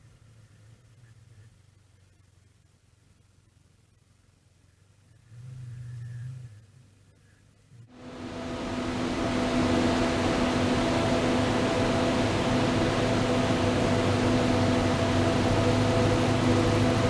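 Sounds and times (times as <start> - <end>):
motorcycle engine humming: 0.0 - 17.0.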